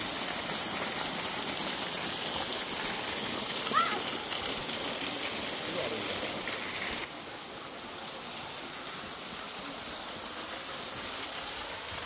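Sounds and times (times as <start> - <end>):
waterfall rushing and splashing: 0.0 - 12.0.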